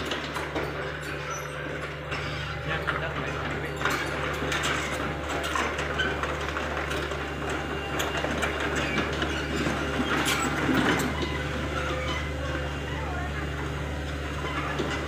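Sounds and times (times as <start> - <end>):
excavator diesel engine running: 0.0 - 15.0
undercarriage clanking and rattling: 0.0 - 15.0.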